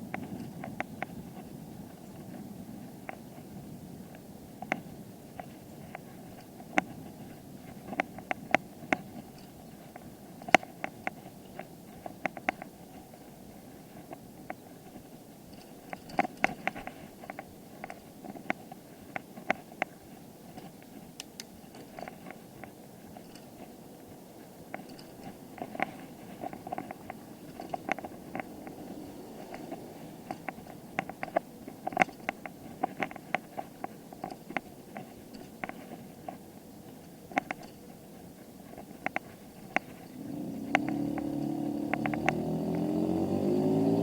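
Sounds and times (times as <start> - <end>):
bicycle rattling and clicking: 0.0 - 44.0
low rumble of riding: 0.0 - 44.0.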